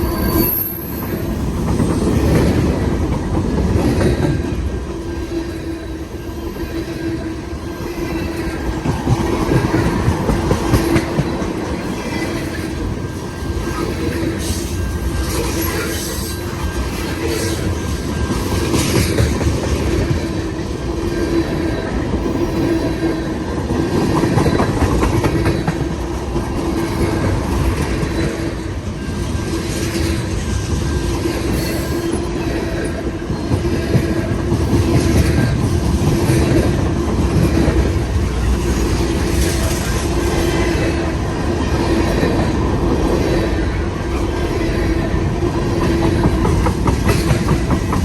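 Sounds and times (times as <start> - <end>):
ringing hum from wheels on rail: 0.0 - 48.0
train wheels clacking over rail joints: 8.0 - 48.0.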